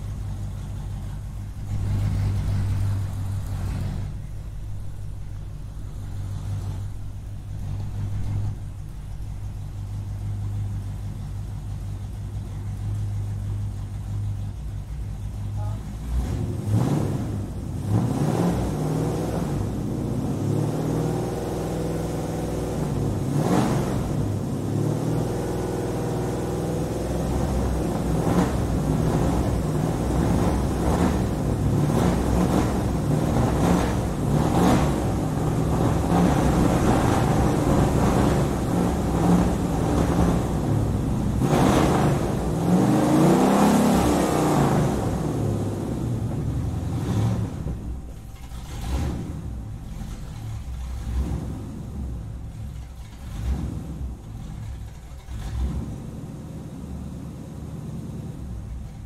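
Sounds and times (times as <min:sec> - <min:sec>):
car engine rumbling and revving: 0:00.0 - 0:59.0.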